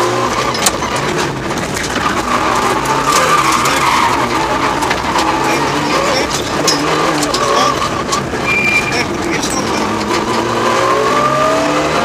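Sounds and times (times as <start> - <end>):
car engine running under load: 0.0 - 12.0
tyre and road noise: 0.0 - 12.0.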